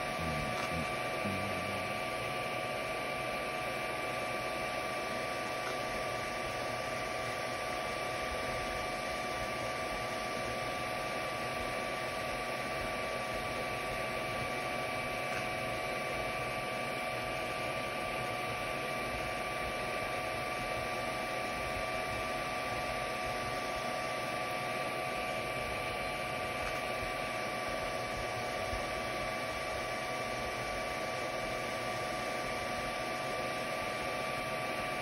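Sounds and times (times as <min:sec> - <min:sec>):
printer fans whirring: 0:00.0 - 0:35.0.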